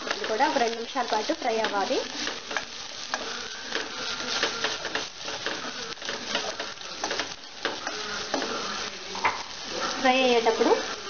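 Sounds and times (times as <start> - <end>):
onions sizzling in oil: 0.0 - 11.0
wooden spoon scraping a pot: 0.0 - 11.0.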